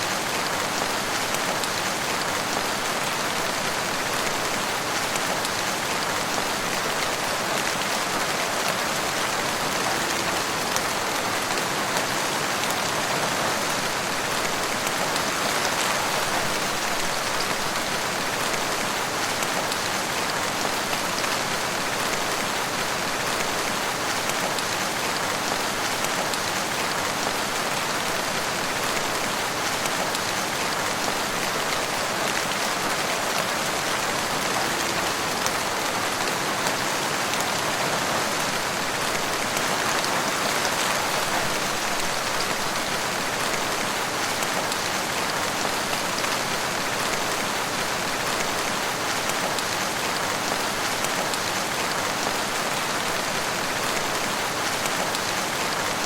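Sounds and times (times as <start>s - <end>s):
rain on leaves: 0.0s - 56.0s.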